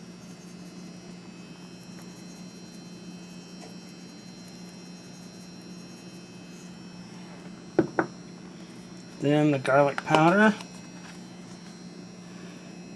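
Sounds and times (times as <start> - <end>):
fan humming: 0.0 - 12.9.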